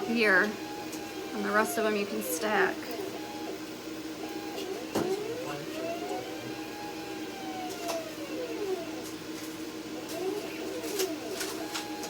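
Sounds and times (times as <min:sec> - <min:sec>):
cutting machine motors whining: 0:00.0 - 0:12.0
steady hum: 0:00.0 - 0:12.0.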